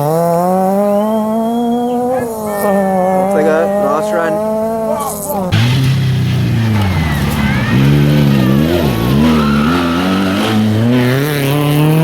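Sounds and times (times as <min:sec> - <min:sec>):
rally car accelerating hard: 0:00.0 - 0:12.0.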